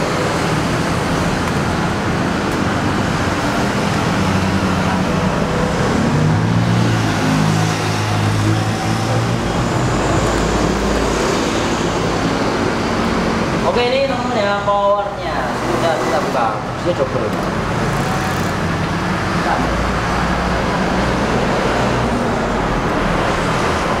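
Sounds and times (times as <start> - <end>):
road traffic noise: 0.0 - 24.0
vehicle engine passing: 0.0 - 24.0.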